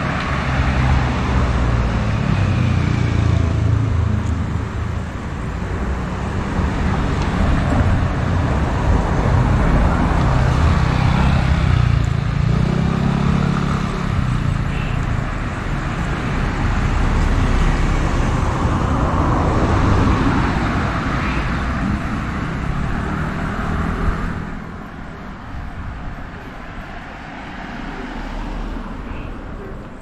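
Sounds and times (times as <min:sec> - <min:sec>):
motor vehicles passing: 0:00.0 - 0:30.0.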